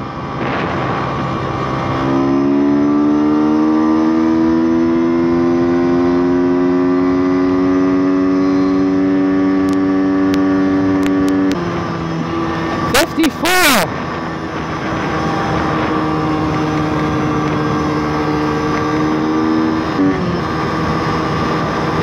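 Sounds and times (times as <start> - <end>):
motorbike engine accelerating: 0.0 - 22.0.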